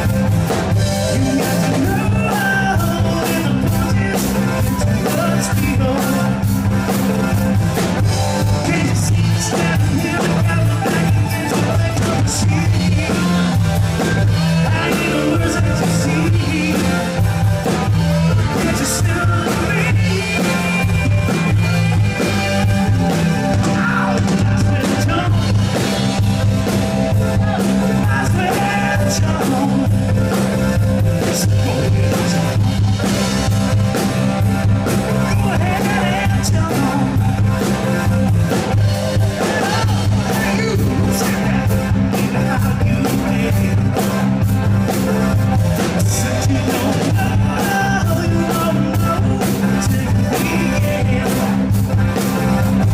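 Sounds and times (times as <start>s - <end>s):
rock band playing live: 0.0s - 52.9s
steady bass line: 0.0s - 52.9s.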